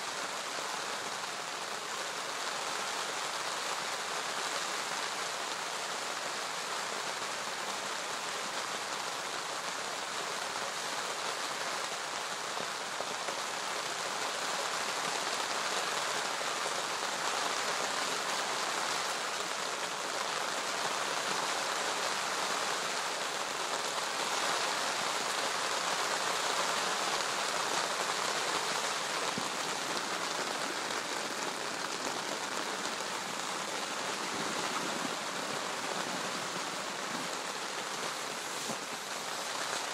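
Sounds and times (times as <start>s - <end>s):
rain falling on water and gravel: 0.0s - 39.9s.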